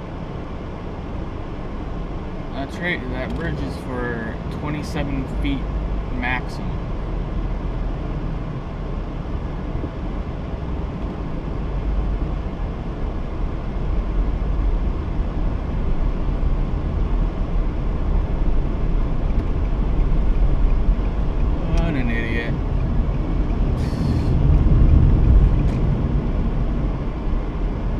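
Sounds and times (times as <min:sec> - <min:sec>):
vehicle engine low rumble: 0:00.0 - 0:27.9.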